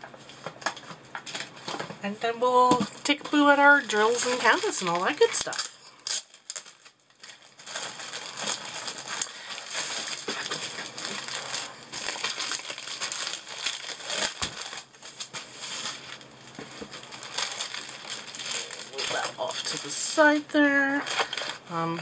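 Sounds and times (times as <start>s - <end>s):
plastic packaging crinkling: 0.2s - 22.0s.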